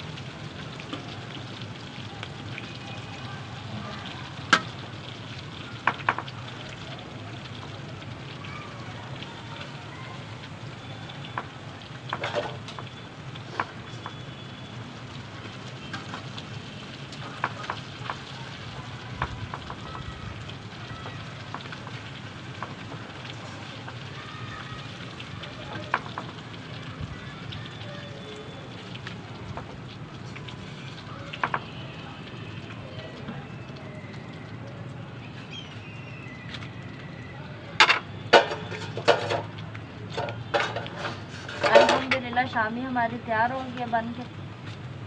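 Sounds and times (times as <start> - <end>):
food sizzling in oil: 0.0 - 45.0
wood fire crackling: 0.0 - 45.0.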